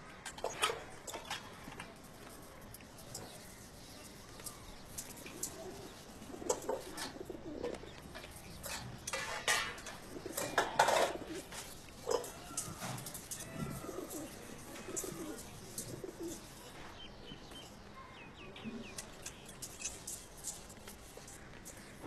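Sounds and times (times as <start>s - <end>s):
birds calling: 2.7s - 22.0s.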